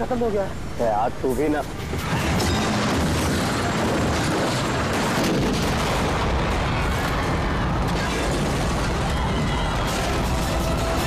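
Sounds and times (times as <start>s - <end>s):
helicopter rumble: 1.8s - 11.0s
crackling explosion blasts: 2.0s - 11.0s.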